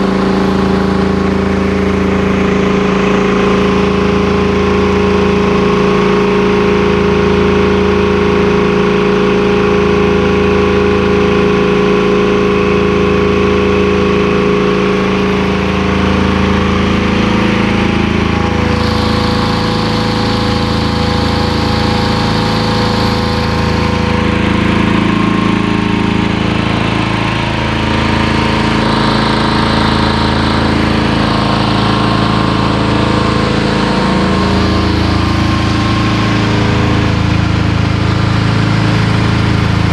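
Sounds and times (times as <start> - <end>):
air compressor droning: 0.0 - 39.9.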